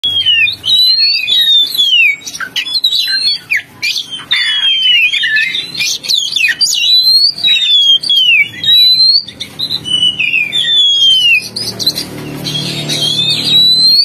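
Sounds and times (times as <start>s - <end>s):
bird singing whistled notes: 0.0s - 14.0s
harsh bird chirps: 0.0s - 14.0s.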